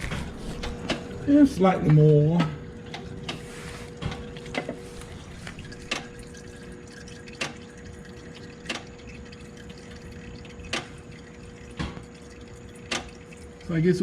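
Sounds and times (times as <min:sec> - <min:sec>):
faint steady hum: 0:00.0 - 0:14.0
oil drops dripping: 0:00.0 - 0:14.0.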